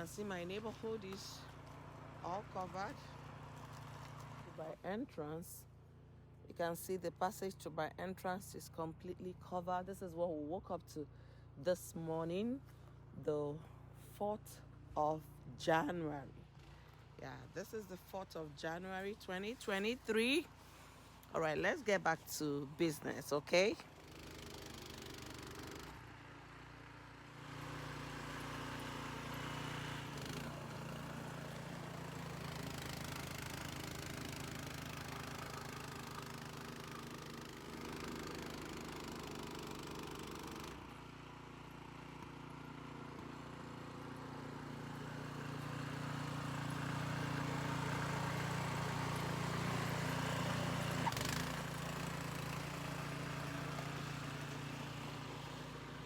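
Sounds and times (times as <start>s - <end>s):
snowblower engine running: 0.0s - 4.9s, 12.6s - 56.0s.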